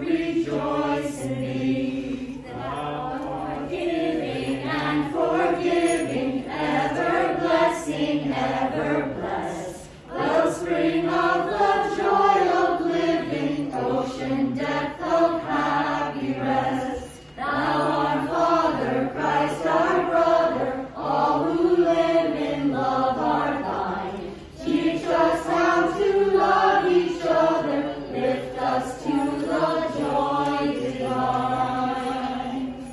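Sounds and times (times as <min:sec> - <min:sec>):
group singing a carol: 0:00.0 - 0:32.9.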